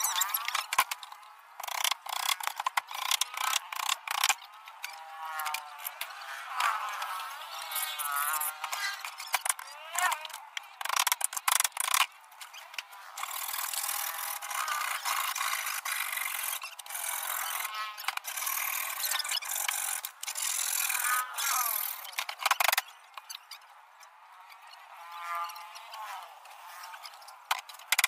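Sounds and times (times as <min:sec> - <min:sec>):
tool scraping along plywood: 0:00.0 - 0:22.8.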